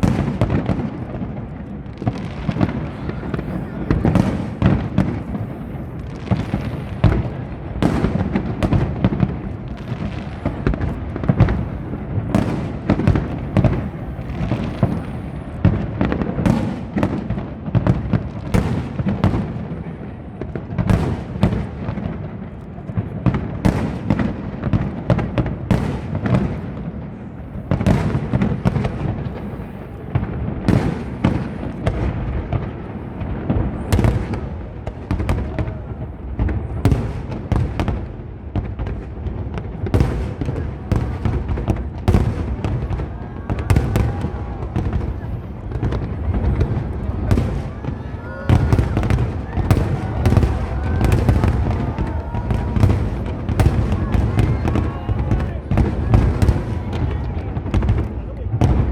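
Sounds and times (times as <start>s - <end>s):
fireworks cracks and bangs: 0.0s - 58.9s.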